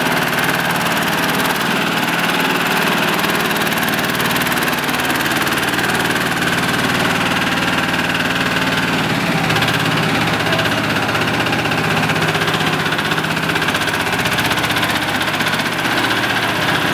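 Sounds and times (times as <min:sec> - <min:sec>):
road roller engine running: 0:00.0 - 0:16.9.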